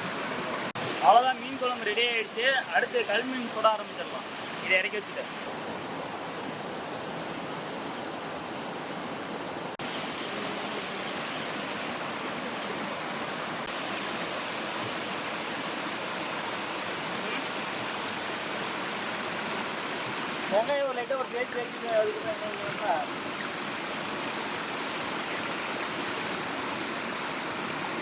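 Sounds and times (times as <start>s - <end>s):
water rushing from waterfall: 0.0s - 28.0s.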